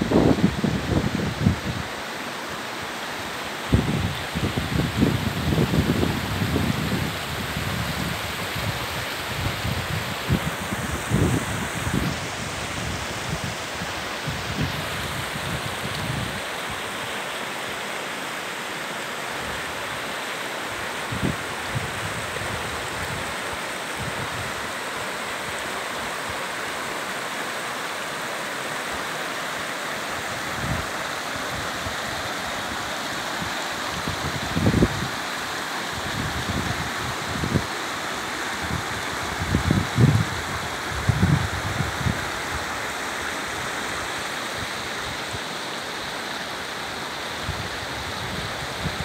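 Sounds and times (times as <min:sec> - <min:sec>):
stream rippling over stones: 0:06.8 - 0:49.0.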